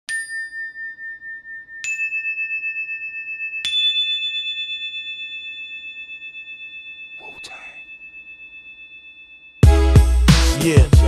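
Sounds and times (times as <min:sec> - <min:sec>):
bell-like chime tones: 0:00.1 - 0:10.0.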